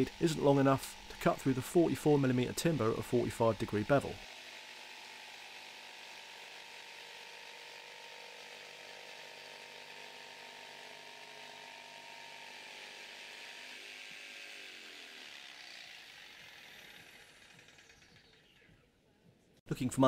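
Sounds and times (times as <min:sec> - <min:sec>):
jigsaw cutting wood: 0:00.0 - 0:18.7.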